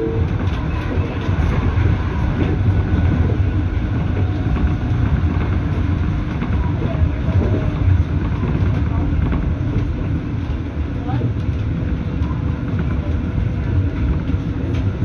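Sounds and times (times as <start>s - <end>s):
train wheels rumbling: 0.0s - 15.0s
faint rail clicks: 0.1s - 15.0s.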